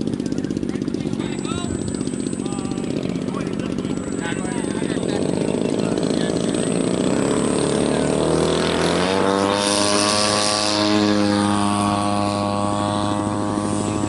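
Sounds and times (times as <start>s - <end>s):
model airplane engine and propeller: 0.0s - 14.0s.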